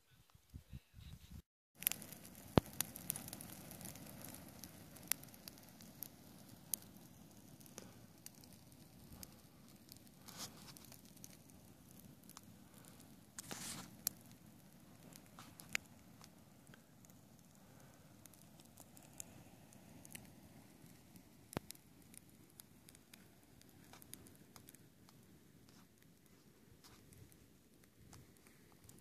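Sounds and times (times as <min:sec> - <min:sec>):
fire crackling and popping: 0:01.8 - 0:29.0
low rush of fire: 0:01.8 - 0:29.0.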